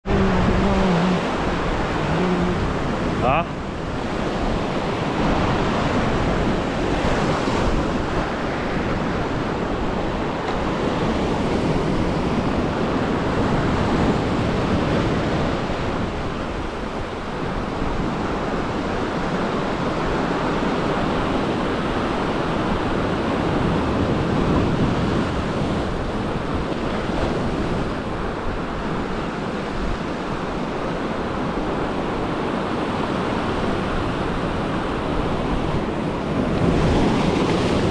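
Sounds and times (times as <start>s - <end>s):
ocean surf on rocky shore: 0.0s - 37.9s.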